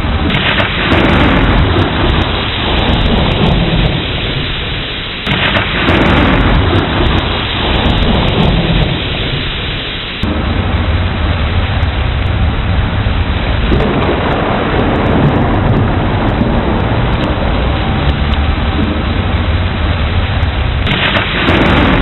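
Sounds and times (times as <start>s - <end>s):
deep rolling thunder: 0.0s - 22.0s
heavy rain: 0.0s - 22.0s.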